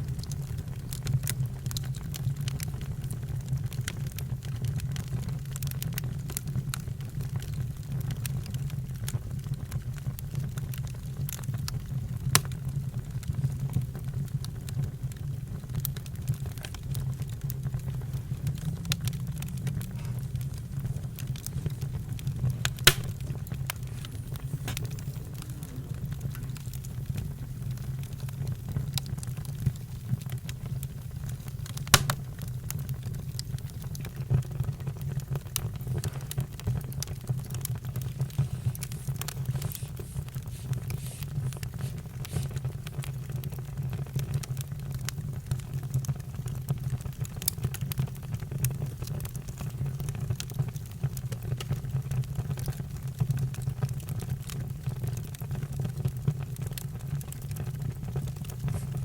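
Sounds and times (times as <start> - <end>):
campfire low rumble: 0.0 - 59.0
fire popping and snapping: 0.0 - 59.0.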